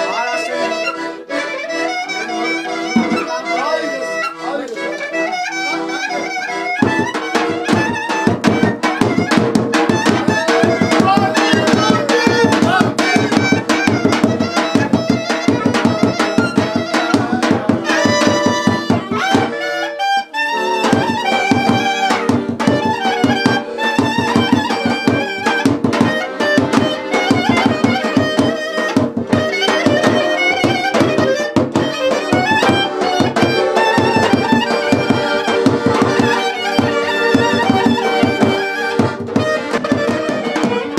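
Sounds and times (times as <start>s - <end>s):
folk dance music with drum beat: 0.2s - 4.4s, 5.2s - 19.9s, 20.5s - 40.9s.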